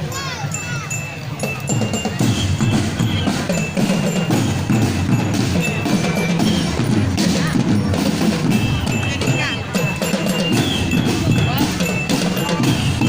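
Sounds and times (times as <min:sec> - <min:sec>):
drums in driving rhythm: 0:00.0 - 0:13.0.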